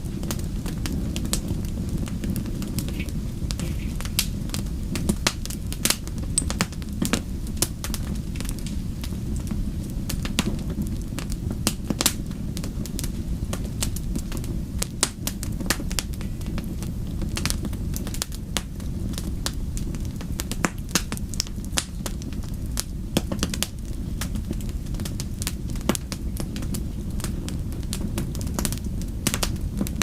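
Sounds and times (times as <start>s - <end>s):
low rumble of flames: 0.0s - 30.0s
wood fire crackling and popping: 0.0s - 30.0s.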